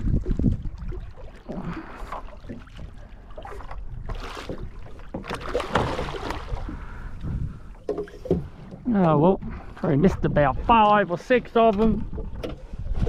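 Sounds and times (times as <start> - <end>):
rustling aboard a boat: 0.0 - 13.0.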